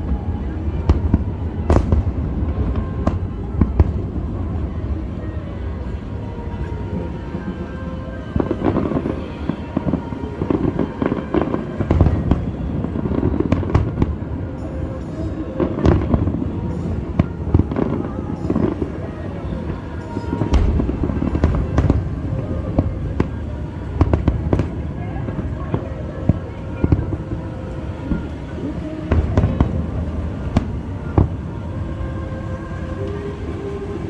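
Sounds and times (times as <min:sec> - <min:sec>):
fireworks booming and crackling: 0:00.0 - 0:34.0.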